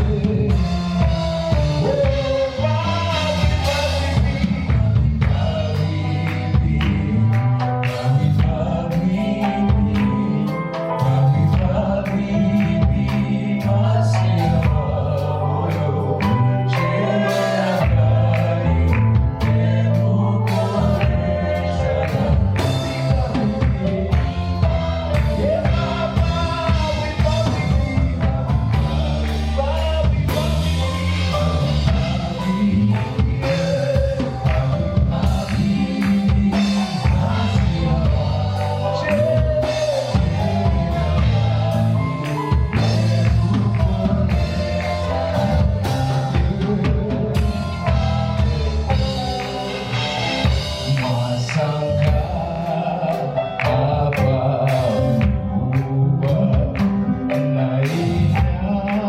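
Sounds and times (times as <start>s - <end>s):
gospel band playing: 0.0s - 59.0s
people singing: 0.0s - 59.0s.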